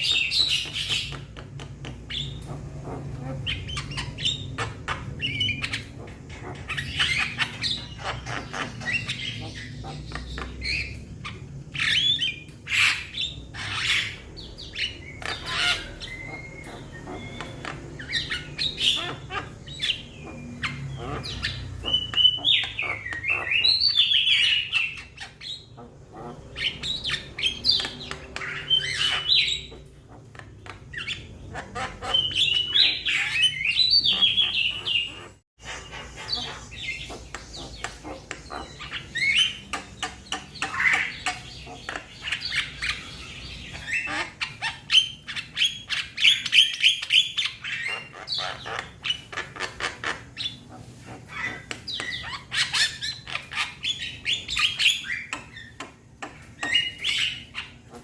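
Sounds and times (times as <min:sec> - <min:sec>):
myna chattering squawks and chirps: 0:00.0 - 0:58.0.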